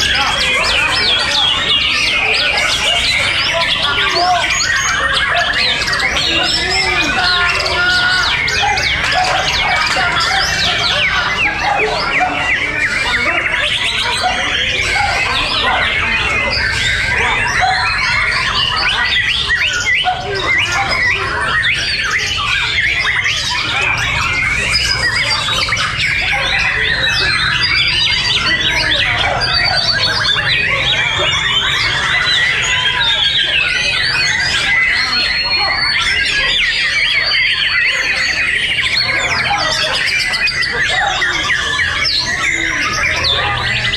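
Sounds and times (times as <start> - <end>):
chorus of birds singing: 0.0 - 43.9.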